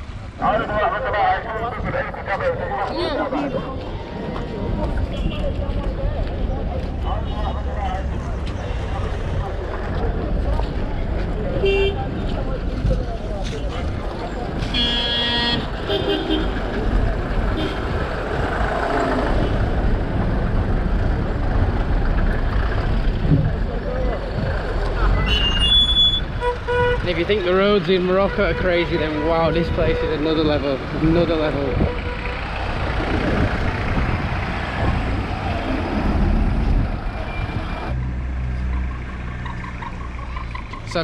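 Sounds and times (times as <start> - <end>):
car engines rumbling in traffic: 0.0 - 41.0.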